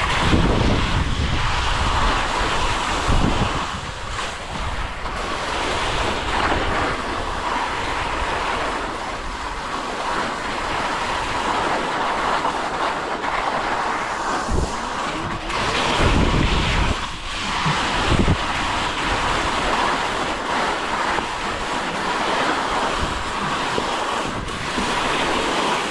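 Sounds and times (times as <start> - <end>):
steady rushing hiss: 0.0 - 25.9
wind buffeting microphone: 0.0 - 25.9.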